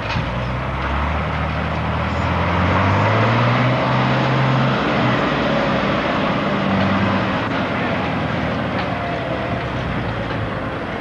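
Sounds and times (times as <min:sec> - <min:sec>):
lorry diesel engine passing: 0:00.0 - 0:11.0.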